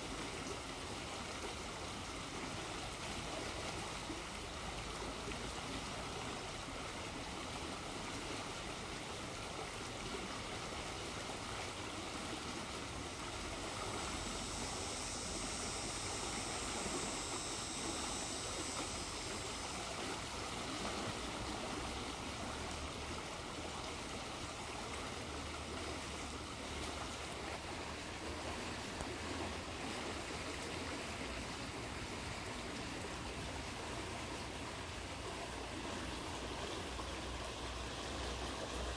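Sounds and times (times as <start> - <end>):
stream rushing and bubbling: 0.0 - 38.9.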